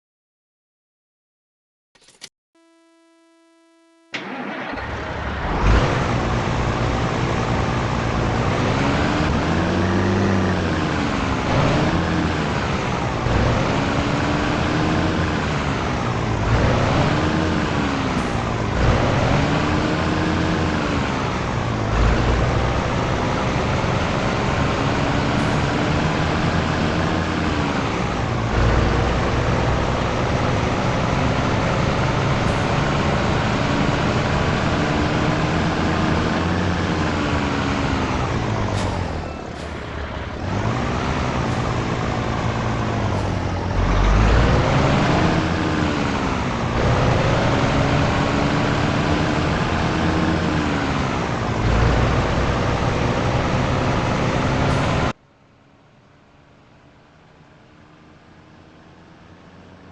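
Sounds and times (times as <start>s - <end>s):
truck diesel engine: 4.1s - 59.9s.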